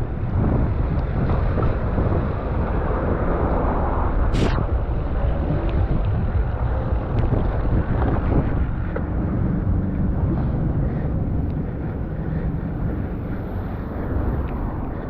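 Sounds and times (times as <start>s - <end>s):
low road rumble: 0.0s - 15.0s
wind rushing over microphone: 0.0s - 15.0s.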